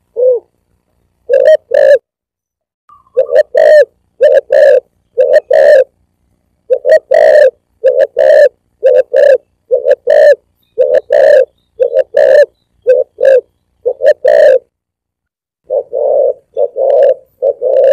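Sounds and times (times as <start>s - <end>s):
dove cooing: 0.0s - 0.5s, 1.2s - 2.0s, 3.0s - 6.0s, 6.6s - 14.7s, 15.6s - 17.9s.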